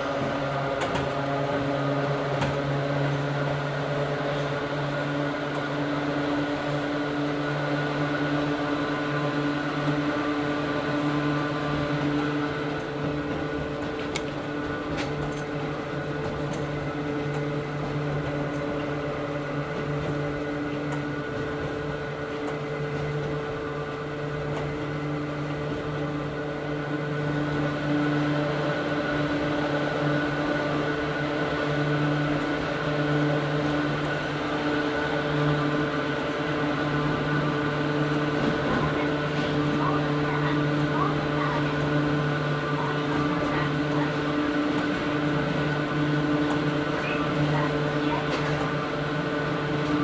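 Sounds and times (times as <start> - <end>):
electric train motor whining: 0.0 - 50.0.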